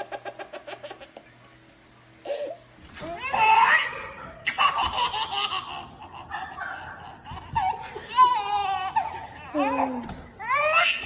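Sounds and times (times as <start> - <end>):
baby laughing: 0.0 - 11.0.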